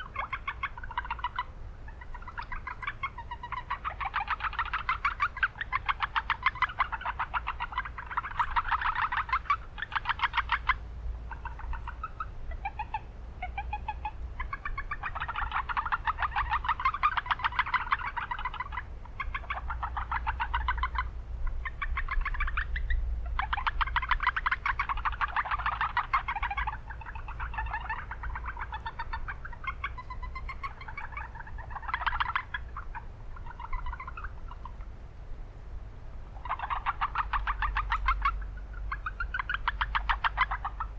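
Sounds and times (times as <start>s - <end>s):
frogs calling in chorus: 0.0s - 35.0s, 36.3s - 40.9s
low rumble of town noise: 0.0s - 40.9s.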